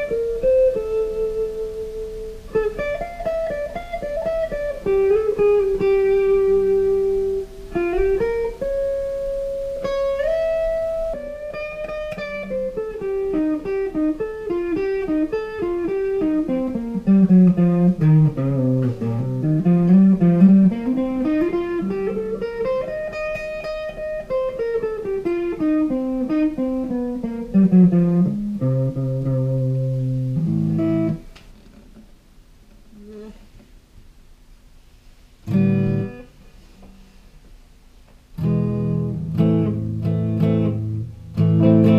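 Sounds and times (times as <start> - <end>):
electric guitar through small amp: 0.0 - 31.8, 35.4 - 36.4, 38.4 - 41.9.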